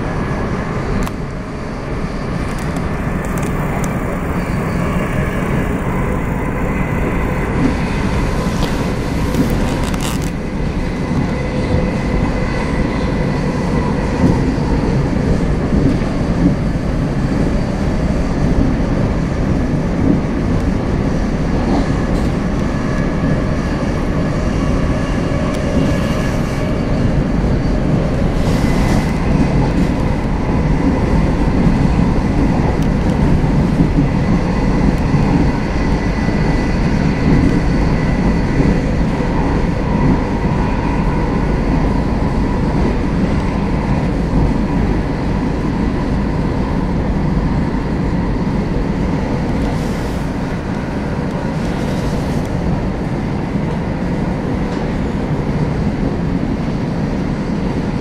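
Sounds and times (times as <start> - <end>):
train running noise inside carriage: 0.0 - 58.0.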